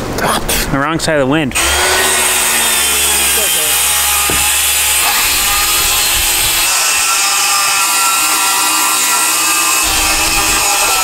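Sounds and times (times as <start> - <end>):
circular saw cutting wood: 1.6 - 11.0.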